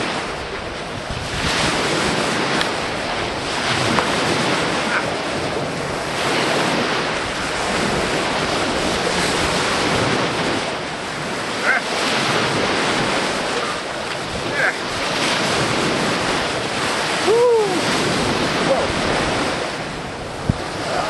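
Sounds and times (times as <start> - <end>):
lake waves washing on shore: 0.0 - 21.0
wind buffeting microphone: 0.0 - 21.0.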